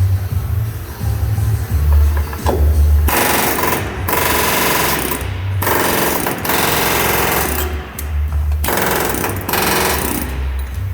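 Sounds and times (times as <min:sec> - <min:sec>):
pneumatic chisel hammering steel: 0:01.8 - 0:10.9.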